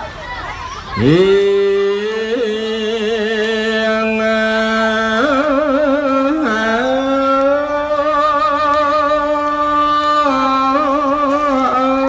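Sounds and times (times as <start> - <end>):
man chanting: 1.0 - 12.0.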